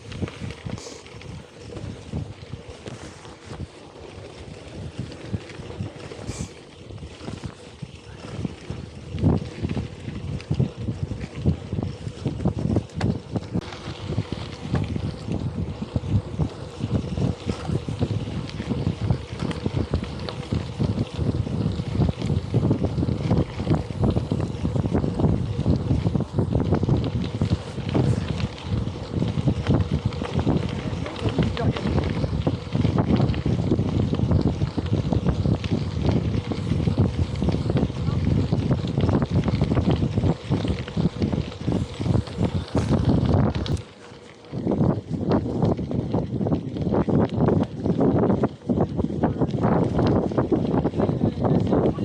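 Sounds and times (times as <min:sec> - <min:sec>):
bike tyres rumbling on rough ground: 0:00.0 - 0:52.0
wind buffeting microphone: 0:00.0 - 0:52.0.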